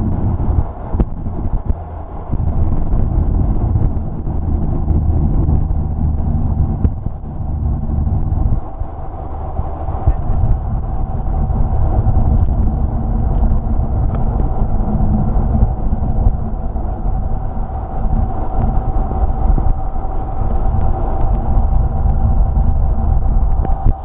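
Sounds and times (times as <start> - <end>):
turboprop cabin drone: 0.0 - 24.0.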